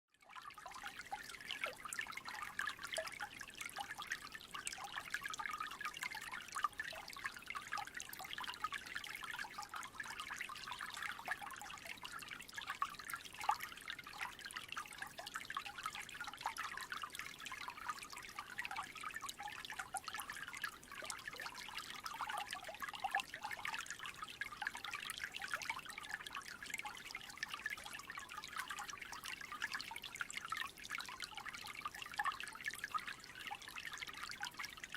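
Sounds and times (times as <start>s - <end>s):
small creek trickling: 0.2s - 34.9s.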